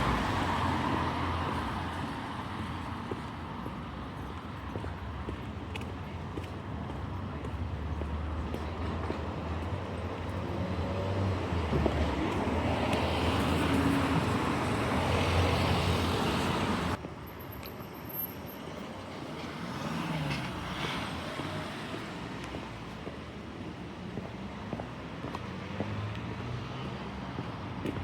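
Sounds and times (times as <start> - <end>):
background traffic: 0.0 - 28.0.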